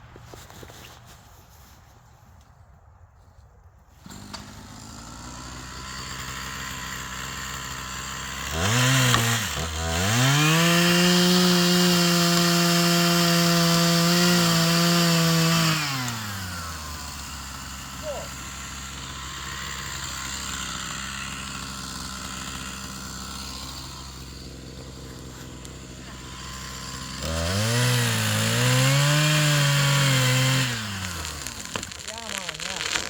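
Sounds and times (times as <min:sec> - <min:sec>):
chainsaw engine revving: 0:04.0 - 0:33.0.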